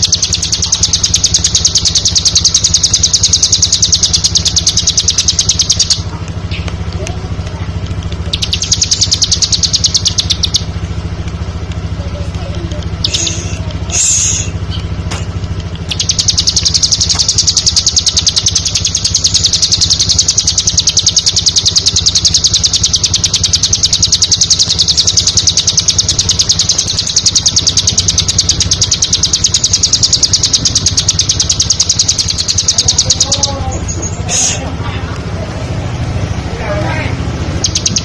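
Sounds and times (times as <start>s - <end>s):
bird singing rapid high notes: 0.0s - 6.8s, 8.0s - 11.1s, 12.8s - 34.6s, 37.2s - 38.0s
steady low hum: 0.0s - 38.0s.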